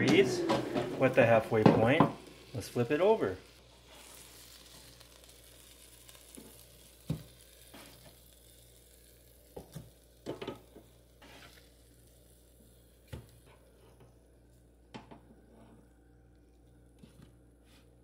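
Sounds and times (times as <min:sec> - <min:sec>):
patties sizzling: 0:00.0 - 0:15.5.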